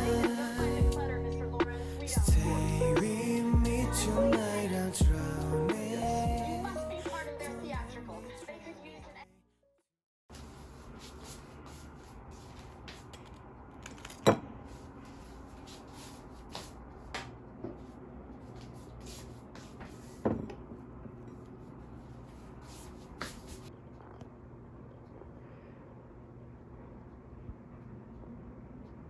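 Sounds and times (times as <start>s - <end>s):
steady low hum: 0.0s - 8.1s, 10.3s - 29.0s.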